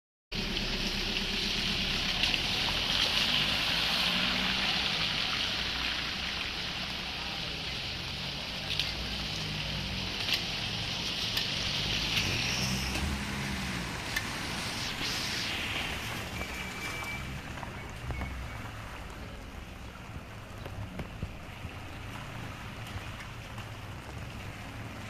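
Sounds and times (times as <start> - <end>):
cars driving through water: 0.3 - 25.0
heavy rain hissing: 0.4 - 22.5.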